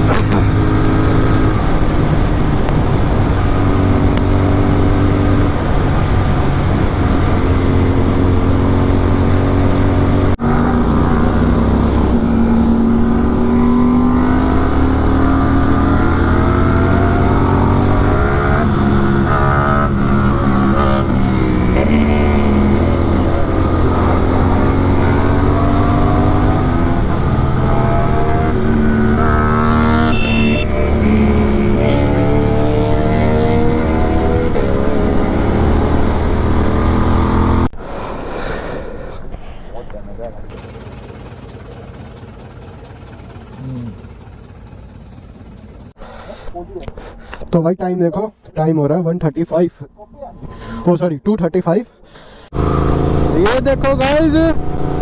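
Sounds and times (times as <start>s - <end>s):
motorcycle engine running loud: 0.0s - 37.7s, 40.3s - 45.9s, 52.5s - 55.0s.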